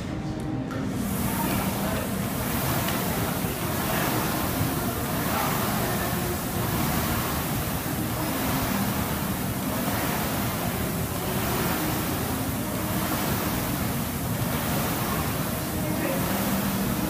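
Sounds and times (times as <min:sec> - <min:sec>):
rowing machine flywheel whooshing: 0:00.9 - 0:17.0.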